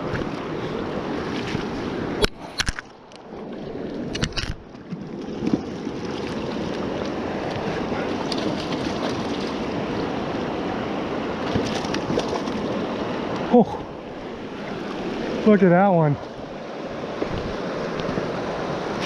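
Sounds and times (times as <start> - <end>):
river flowing over rocks: 0.0 - 19.0.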